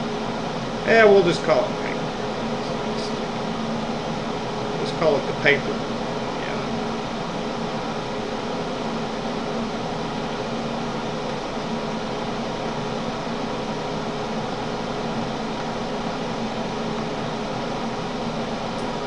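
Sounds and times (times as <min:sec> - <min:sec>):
fan noise: 0:00.0 - 0:19.0.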